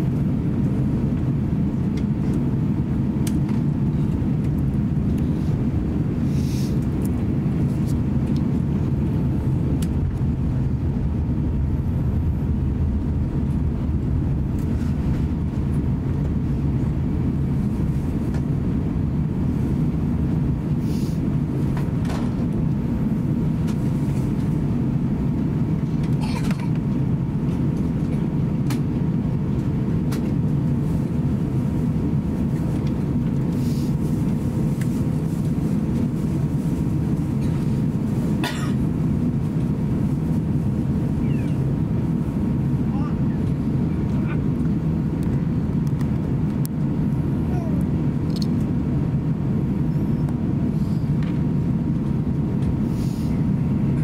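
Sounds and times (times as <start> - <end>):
aircraft engines rumbling: 0.0 - 54.0
faint hum: 0.0 - 54.0.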